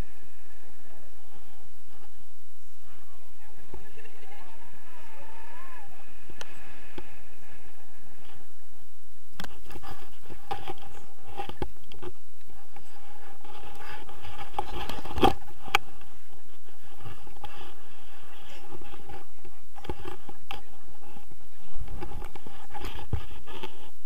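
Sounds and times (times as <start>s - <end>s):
bodies bumping and scraping ground: 0.0s - 24.0s
rustling: 0.0s - 24.0s.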